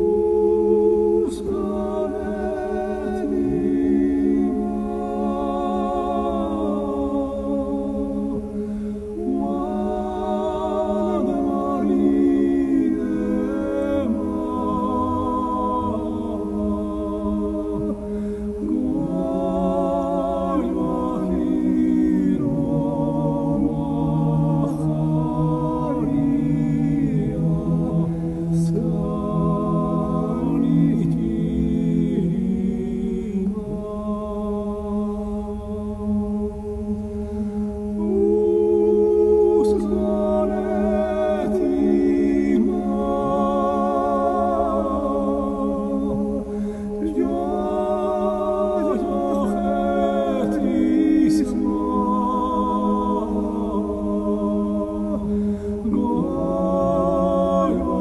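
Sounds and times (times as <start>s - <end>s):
slow song with vibrato singing: 0.0s - 58.0s
sustained low accompanying notes: 0.0s - 58.0s.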